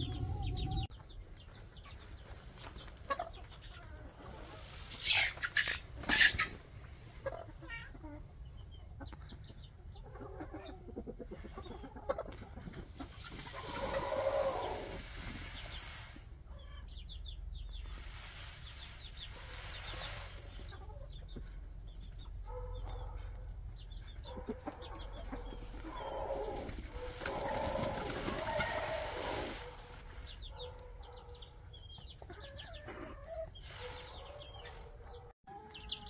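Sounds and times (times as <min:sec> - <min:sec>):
chickens clucking: 0:00.0 - 0:36.0
chicks peeping: 0:00.0 - 0:36.0.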